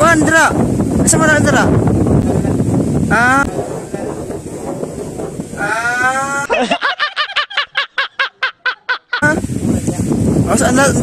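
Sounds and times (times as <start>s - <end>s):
wind noise on microphone: 0.0s - 7.8s, 9.2s - 11.0s.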